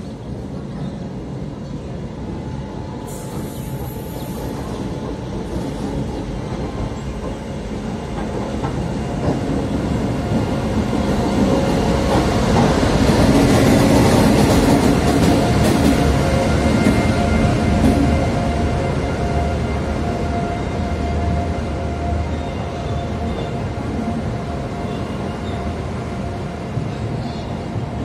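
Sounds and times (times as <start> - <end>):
electric locomotive passing: 0.0 - 28.0
train wheels rumbling on rails: 0.0 - 28.0.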